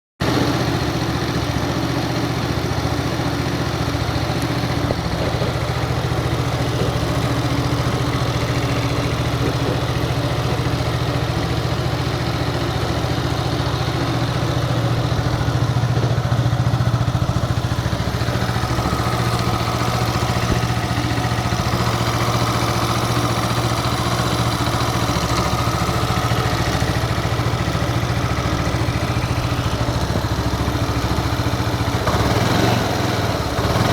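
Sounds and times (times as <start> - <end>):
scooter engine idling: 0.2 - 33.9.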